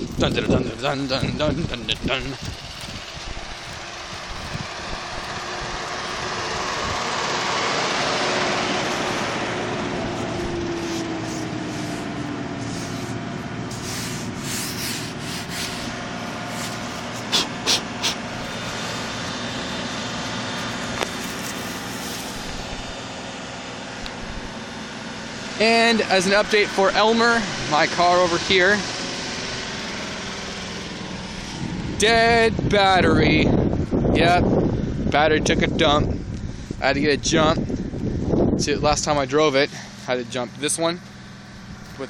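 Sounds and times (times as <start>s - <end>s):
car engine fast idle: 0.0s - 31.9s, 37.6s - 42.0s.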